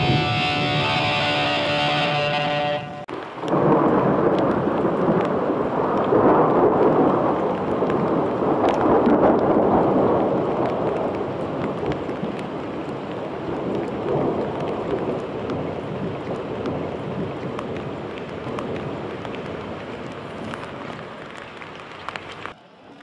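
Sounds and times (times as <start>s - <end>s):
thunder rumbling: 0.0s - 22.6s
falling rain: 0.0s - 23.0s.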